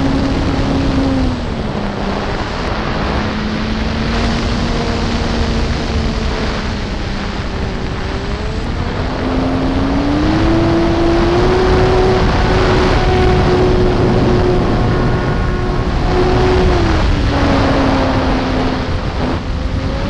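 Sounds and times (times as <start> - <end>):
electric motor and propeller whining: 0.0 - 20.0
wind rushing on microphone: 0.0 - 20.0.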